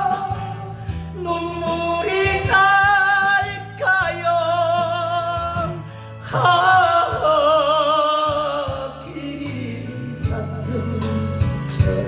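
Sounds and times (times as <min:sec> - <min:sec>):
low musical accompaniment: 0:00.0 - 0:12.0
person singing ballad: 0:00.0 - 0:12.0.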